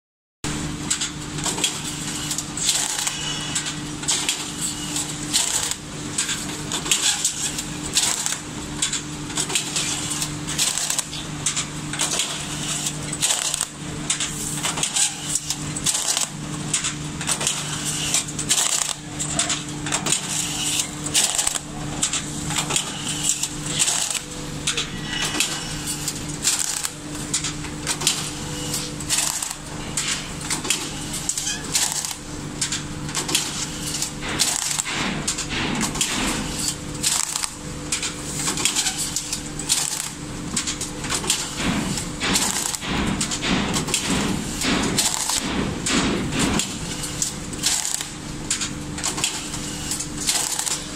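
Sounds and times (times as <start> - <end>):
strapping machine humming: 0.5 - 50.9.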